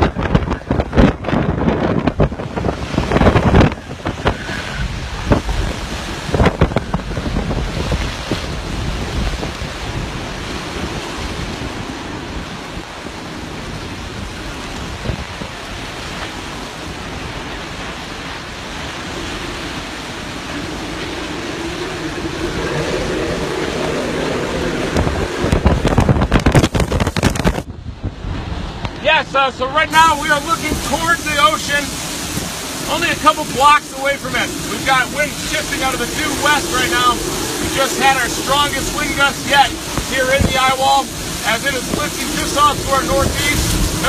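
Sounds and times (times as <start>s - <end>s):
strong wind on microphone: 0.0s - 44.0s.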